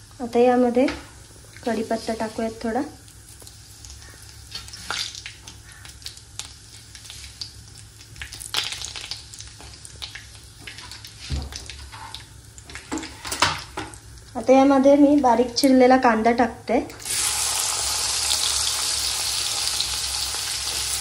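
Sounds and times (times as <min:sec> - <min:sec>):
hot oil sizzling and crackling: 0:00.0 - 0:21.0.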